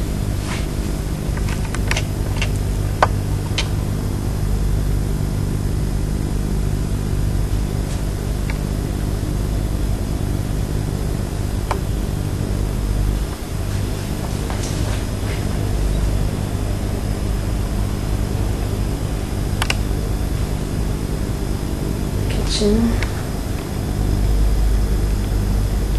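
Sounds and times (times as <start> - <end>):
low mechanical hum: 0.0 - 25.9.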